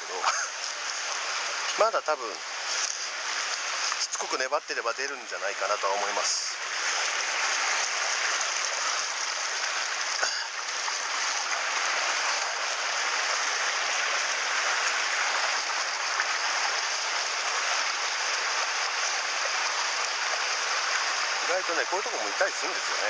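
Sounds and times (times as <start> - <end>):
mountain stream flowing: 0.0 - 23.0.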